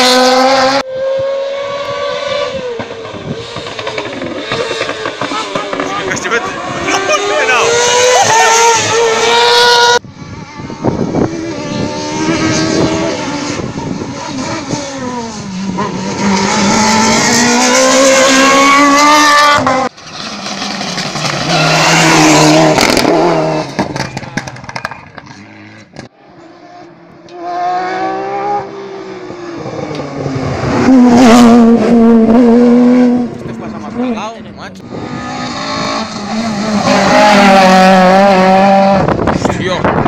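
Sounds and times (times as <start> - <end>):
rally car engines at full throttle: 0.0 - 40.0.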